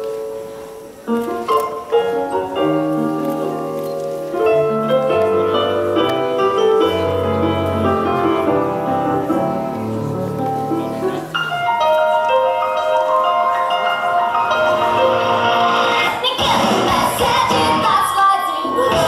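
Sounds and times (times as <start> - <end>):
instrumental piano music: 0.0 - 16.3.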